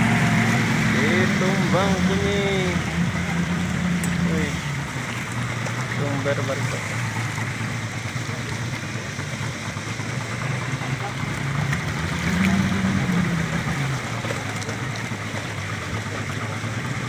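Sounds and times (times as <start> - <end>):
speedboat engine running: 0.0 - 17.0
water washing along hull: 0.0 - 17.0.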